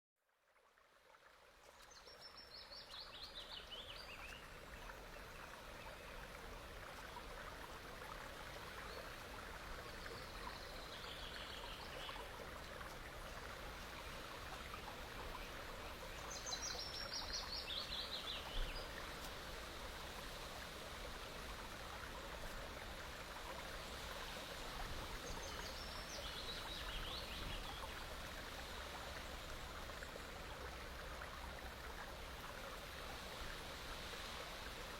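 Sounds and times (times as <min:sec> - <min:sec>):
rushing water: 0:00.7 - 0:34.9.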